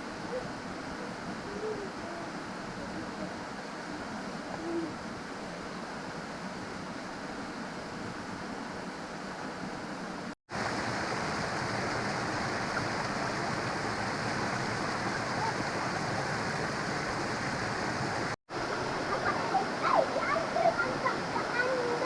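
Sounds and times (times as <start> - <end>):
running water in a creek: 0.0 - 22.0.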